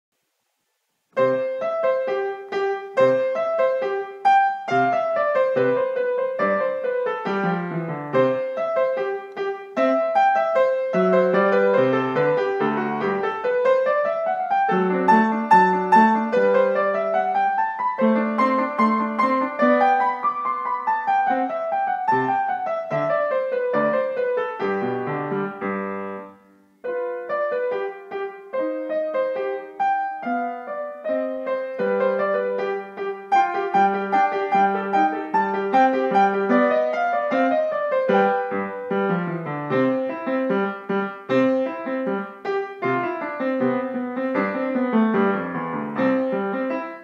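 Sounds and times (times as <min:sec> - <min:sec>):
child playing upright piano: 0:01.2 - 0:47.0.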